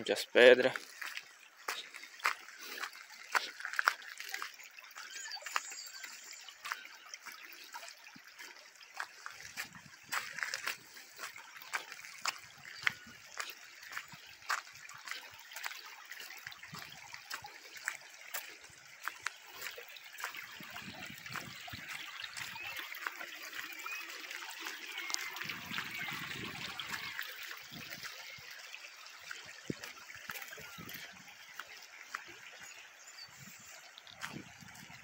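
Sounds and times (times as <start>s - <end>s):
water trickling along dirt road: 0.0s - 35.0s.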